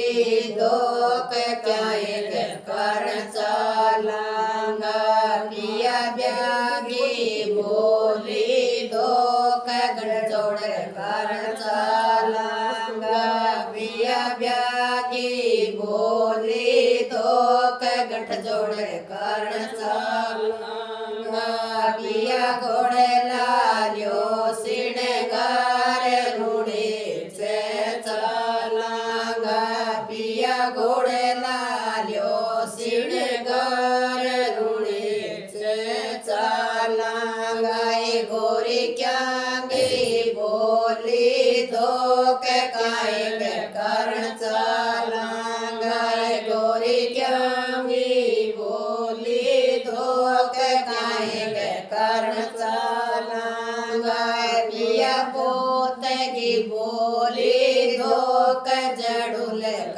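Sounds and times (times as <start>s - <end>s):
women singing in unison: 0.0s - 59.9s.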